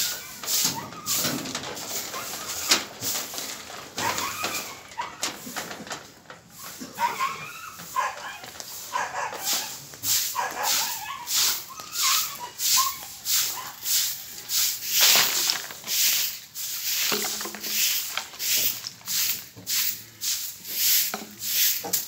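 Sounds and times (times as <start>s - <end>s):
brooms sweeping concrete: 0.0s - 22.0s.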